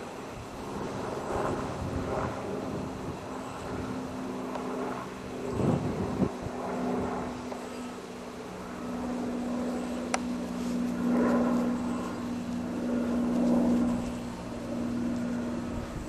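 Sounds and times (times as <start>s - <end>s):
helicopter droning hum: 0.0s - 16.0s.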